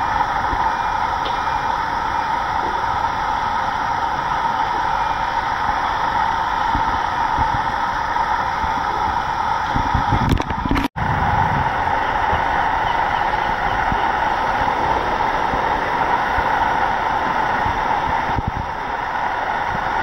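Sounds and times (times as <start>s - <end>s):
outdoor background hiss and hum: 0.0s - 20.0s
wind buffeting microphone: 0.0s - 20.0s.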